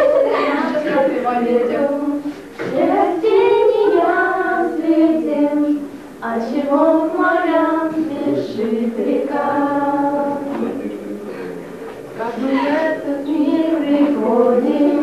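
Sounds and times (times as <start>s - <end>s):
women singing together: 0.0s - 10.8s, 12.2s - 15.0s.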